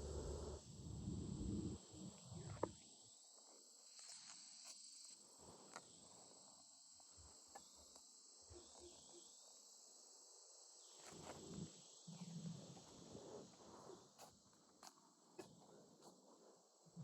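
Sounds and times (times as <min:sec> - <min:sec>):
faint high-pitched hiss: 0:00.0 - 0:17.0.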